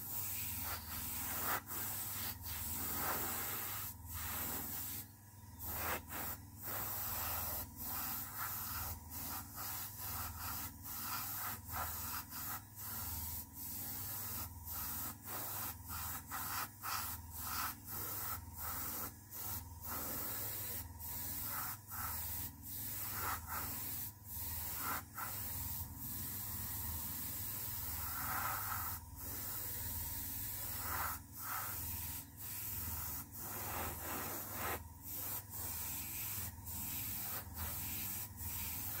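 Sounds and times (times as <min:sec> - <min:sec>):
airbrush air hiss: 0:00.0 - 0:39.0.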